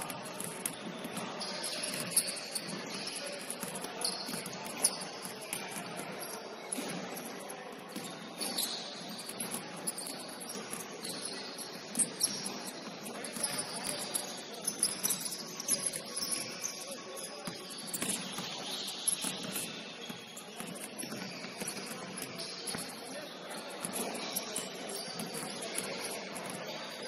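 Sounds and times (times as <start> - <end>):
basketballs bouncing: 0.0 - 26.9
sneakers squeaking on wood floor: 0.0 - 27.0.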